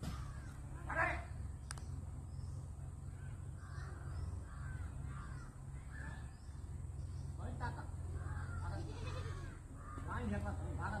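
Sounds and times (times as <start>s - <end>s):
bird cawing: 0.0s - 11.0s.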